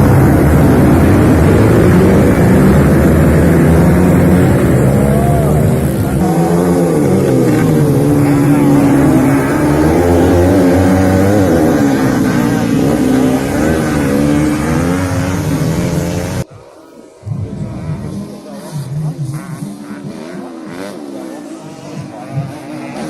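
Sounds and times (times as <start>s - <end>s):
motocross bike engines revving: 0.0s - 16.5s, 17.2s - 23.0s.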